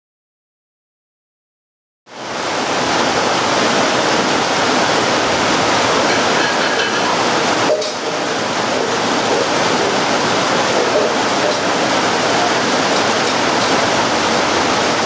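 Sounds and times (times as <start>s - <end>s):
heavy rain falling: 2.1s - 15.0s.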